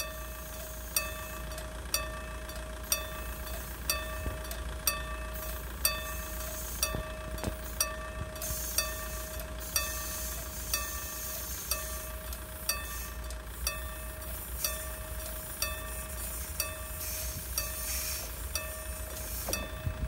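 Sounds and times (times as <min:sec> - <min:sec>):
railway warning bell ringing: 0:00.0 - 0:20.0.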